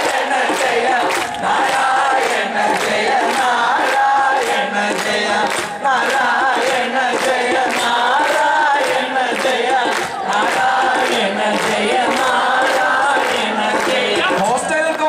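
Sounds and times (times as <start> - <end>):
men chanting together: 0.0 - 14.7
steady percussion beat: 0.0 - 15.0.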